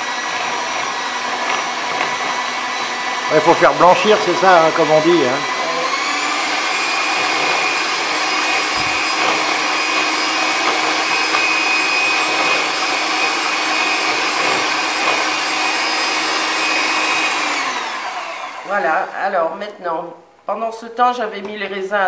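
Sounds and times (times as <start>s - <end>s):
beaters whisking in plastic bowl: 0.0s - 17.9s
electric hand mixer whining: 0.0s - 19.4s.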